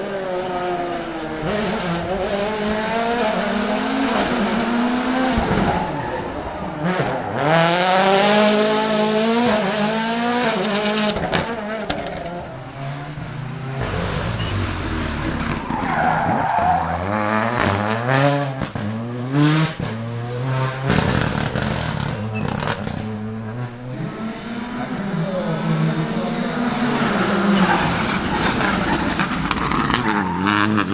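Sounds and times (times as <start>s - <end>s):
rally car engine revving: 0.0s - 30.9s
tyres skidding: 0.0s - 30.9s.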